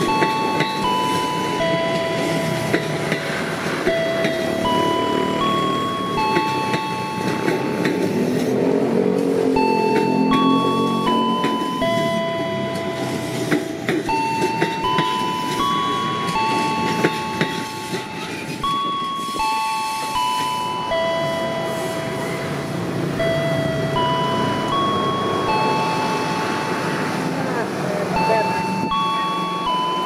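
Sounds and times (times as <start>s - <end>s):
wheels rumbling: 0.0s - 19.4s, 20.2s - 30.0s.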